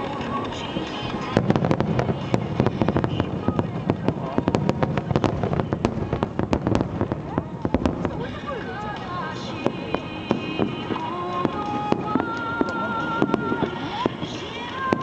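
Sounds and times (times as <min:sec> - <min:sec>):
low rumble: 0:00.0 - 0:14.2
fireworks crackling: 0:00.0 - 0:15.0
music playing: 0:00.0 - 0:15.0.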